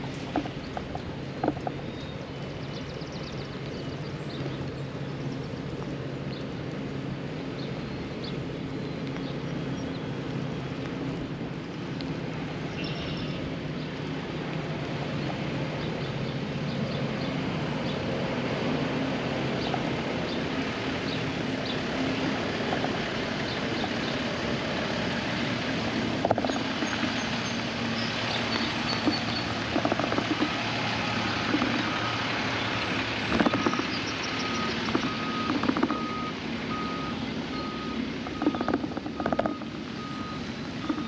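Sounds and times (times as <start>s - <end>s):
low engine drone: 0.0s - 41.0s.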